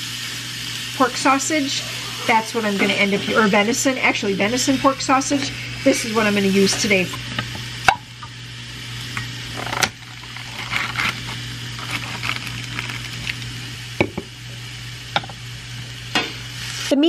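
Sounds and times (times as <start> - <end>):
sausage sizzling in skillet: 0.0 - 17.0.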